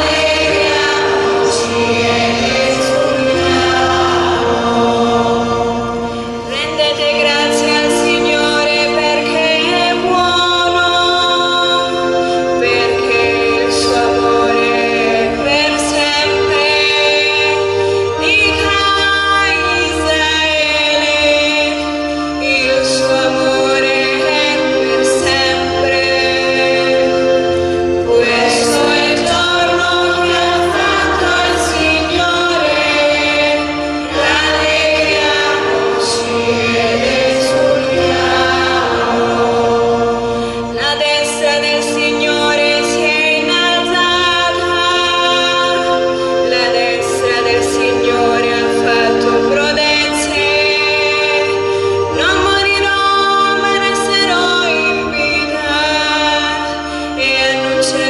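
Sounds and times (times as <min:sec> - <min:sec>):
choir singing: 0:00.0 - 0:58.0
sustained accompaniment chords: 0:00.0 - 0:58.0.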